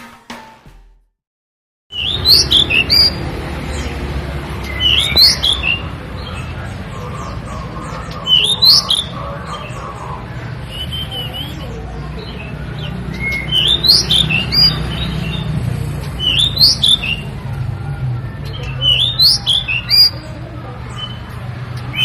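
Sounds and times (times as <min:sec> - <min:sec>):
bird singing: 0:01.9 - 0:22.0.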